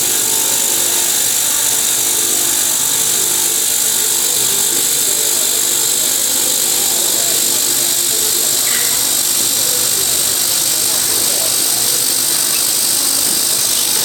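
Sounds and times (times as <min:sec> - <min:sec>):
faint machine tones: 0:00.0 - 0:14.0
saw cutting steel bar: 0:00.0 - 0:14.0.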